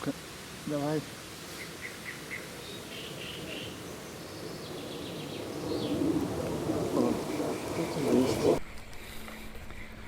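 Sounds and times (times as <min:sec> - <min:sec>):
small birds chirping: 0:00.0 - 0:08.9
outdoor background noise: 0:00.0 - 0:10.0.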